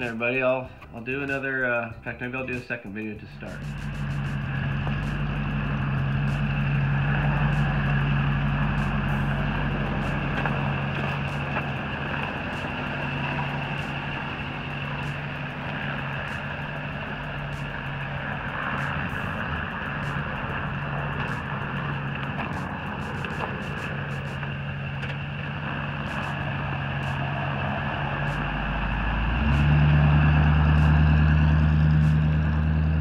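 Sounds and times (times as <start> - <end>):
pickup truck engine running: 0.0 - 33.0.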